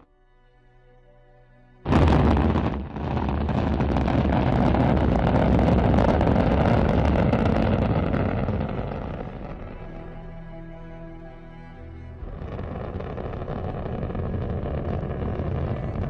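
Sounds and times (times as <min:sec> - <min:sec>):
rocket engine roar: 0:01.8 - 0:10.7, 0:11.8 - 0:16.0.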